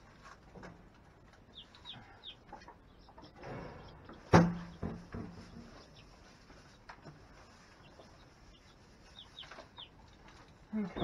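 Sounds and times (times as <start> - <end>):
rustle: 0.0 - 1.9, 3.4 - 11.0
chicks peeping: 0.1 - 11.0.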